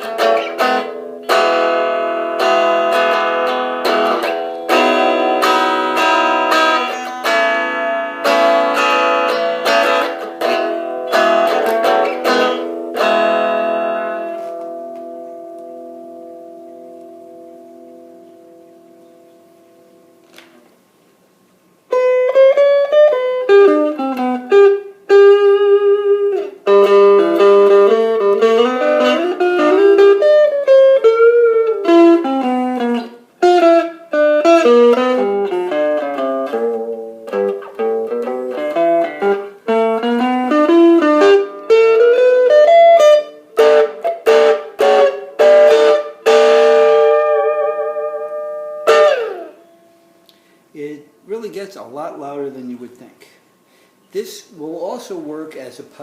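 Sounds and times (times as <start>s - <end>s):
electric guitar through small amp: 0.0s - 20.5s, 21.9s - 51.0s.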